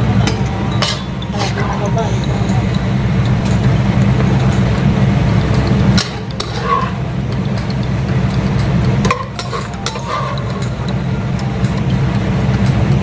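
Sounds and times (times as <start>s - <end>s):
low steady hum: 0.0s - 13.0s
spoon scraping a pot: 0.8s - 11.4s.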